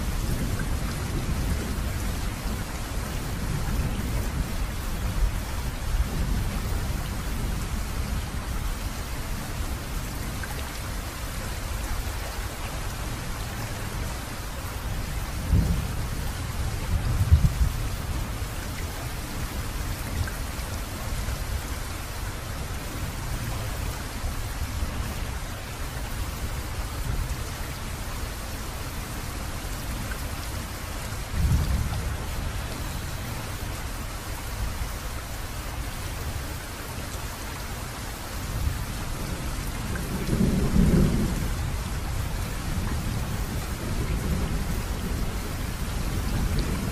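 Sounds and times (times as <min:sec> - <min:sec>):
steady rain: 0:00.0 - 0:46.9.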